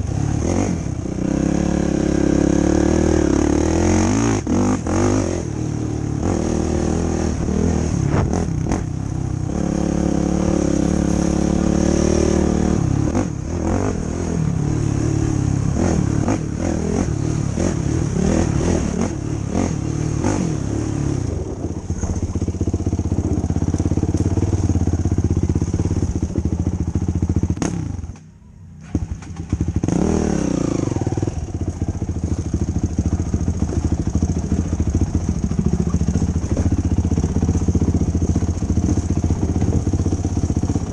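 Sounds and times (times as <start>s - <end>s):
quad engine revving: 0.0s - 28.2s, 28.8s - 40.9s.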